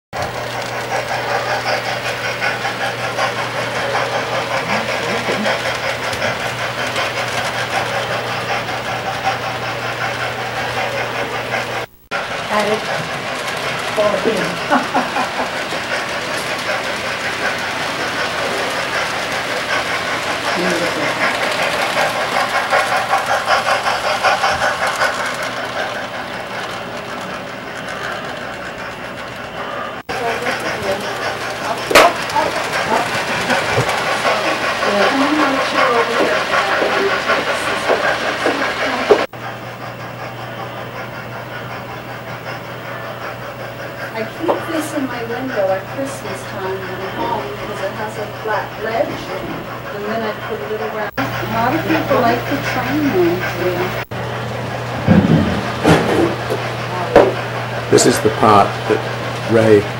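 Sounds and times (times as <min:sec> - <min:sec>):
model train motor hum: 0:00.2 - 0:59.9
wheels clicking over track: 0:00.2 - 0:59.9.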